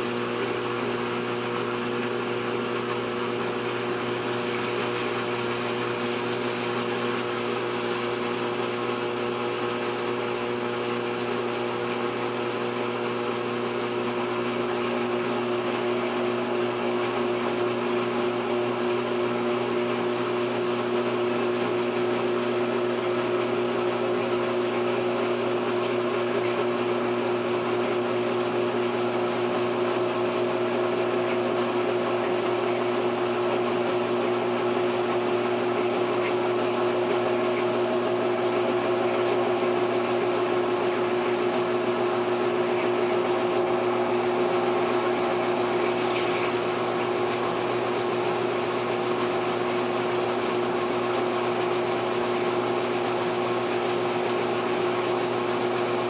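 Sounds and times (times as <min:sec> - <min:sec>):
washing machine spin hum: 0:00.0 - 0:56.0.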